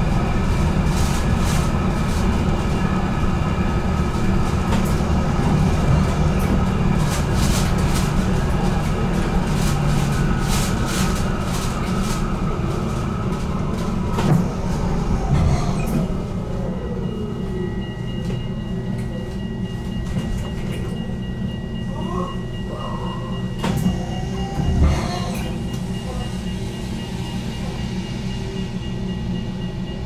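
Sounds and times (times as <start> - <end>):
tram wheels rumbling on track: 0.0 - 30.0.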